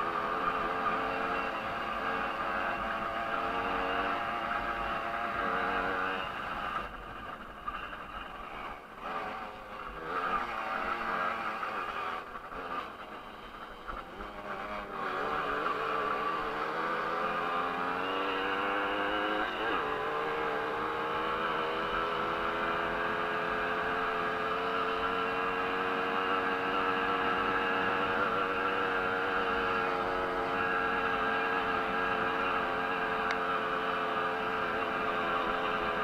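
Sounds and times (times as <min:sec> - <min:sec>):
two-stroke moped engine racing: 0:00.0 - 0:36.0.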